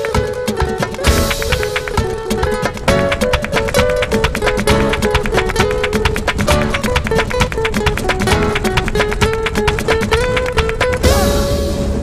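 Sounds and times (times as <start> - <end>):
flamenco acoustic guitar music: 0.0 - 11.7.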